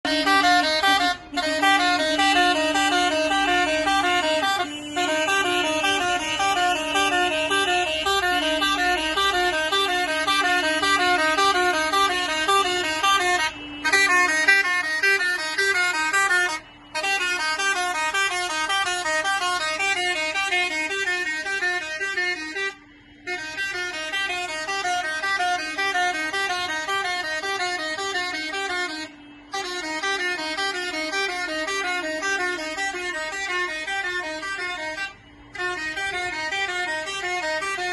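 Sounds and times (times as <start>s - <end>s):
two-tone vehicle horns: 0.0s - 37.9s.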